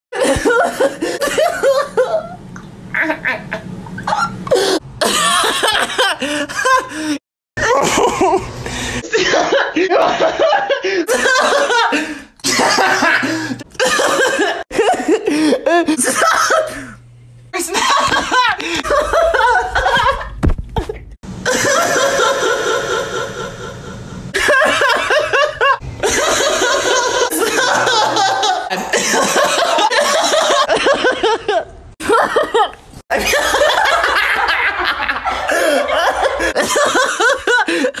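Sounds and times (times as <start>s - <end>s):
man laughing: 0.2s - 17.0s, 17.7s - 38.0s.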